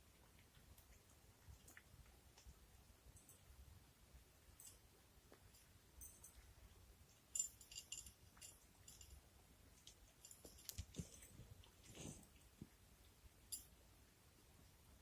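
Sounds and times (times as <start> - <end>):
cats chewing dry kibble: 0.0 - 13.4.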